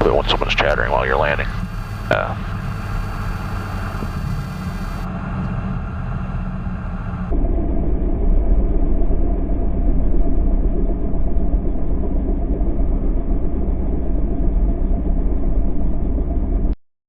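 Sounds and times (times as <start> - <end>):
turboprop engines rumbling: 0.0 - 16.4.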